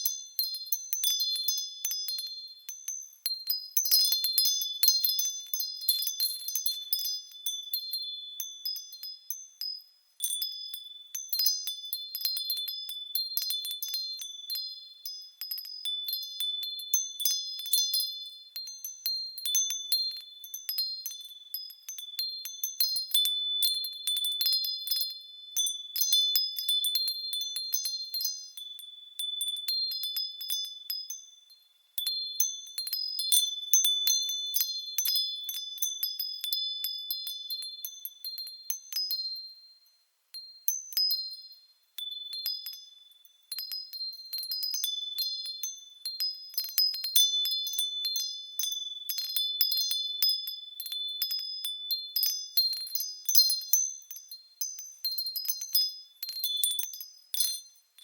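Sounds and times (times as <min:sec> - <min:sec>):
wind chimes tinkling: 0:00.0 - 0:58.0.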